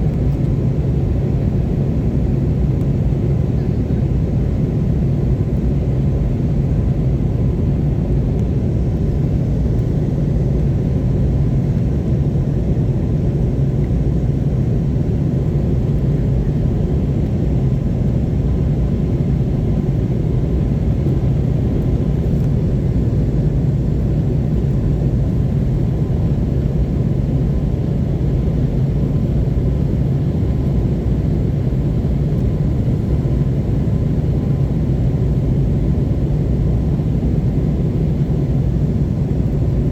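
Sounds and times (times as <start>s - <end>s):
airplane cabin engine drone: 0.0s - 39.9s
faint constant hum: 0.0s - 39.9s.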